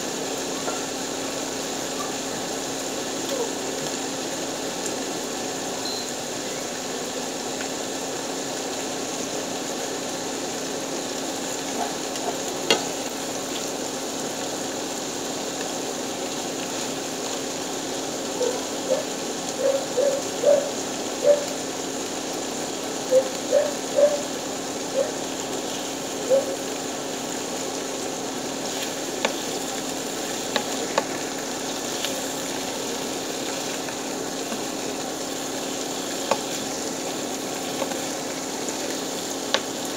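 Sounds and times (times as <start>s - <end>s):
fish sizzling in a pan: 0.0s - 39.9s.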